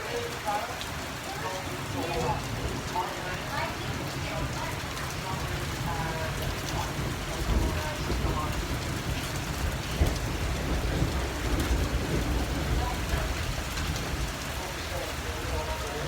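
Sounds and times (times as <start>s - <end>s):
hailstones ticking: 0.0s - 16.0s
heavy rain and hail: 0.0s - 16.0s.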